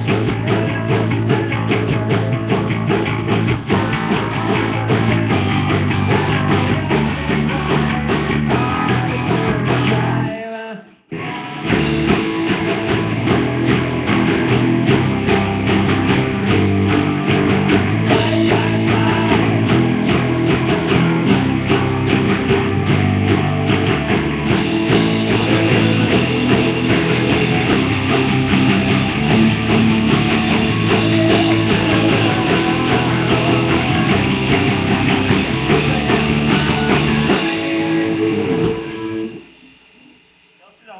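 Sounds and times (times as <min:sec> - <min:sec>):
rock band playing: 0:00.0 - 0:10.3, 0:11.1 - 0:39.6.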